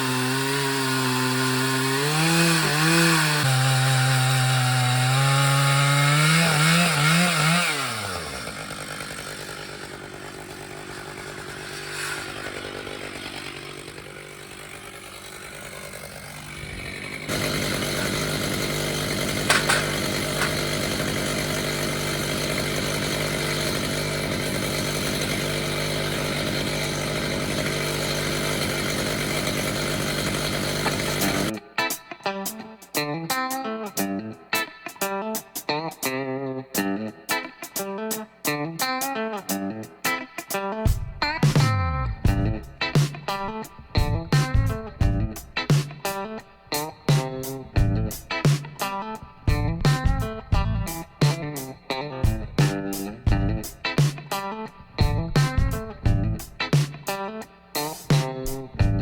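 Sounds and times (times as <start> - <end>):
chainsaw cutting log: 0.0 - 31.7, 40.1 - 59.0.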